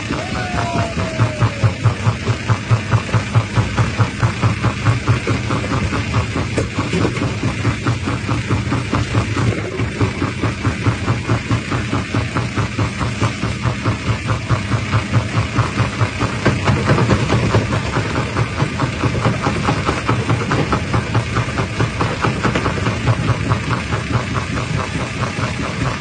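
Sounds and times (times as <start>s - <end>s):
rock crusher droning rhythmically: 0.0s - 26.0s.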